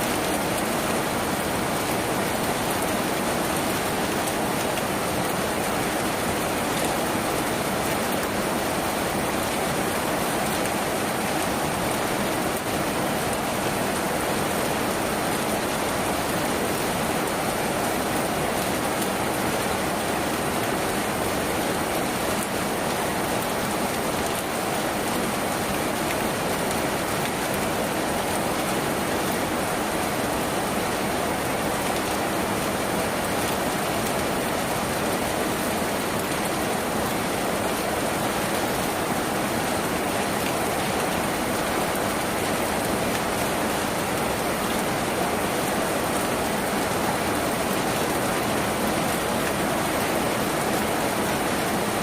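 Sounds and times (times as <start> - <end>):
heavy rain on a tin roof: 0.0 - 52.0.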